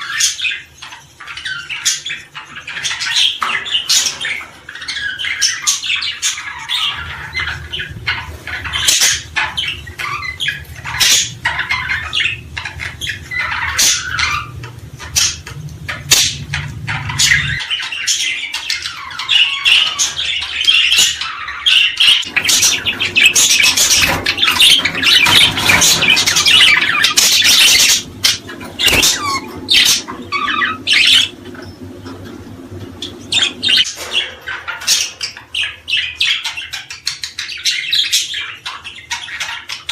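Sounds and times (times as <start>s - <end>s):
small birds chirping: 0.0s - 39.9s
low steady hum: 0.4s - 37.2s.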